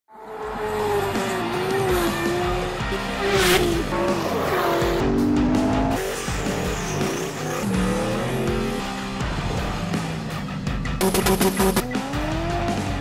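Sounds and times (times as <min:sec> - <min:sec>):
background music: 0:00.2 - 0:13.0
race car engine running hard: 0:00.5 - 0:13.0.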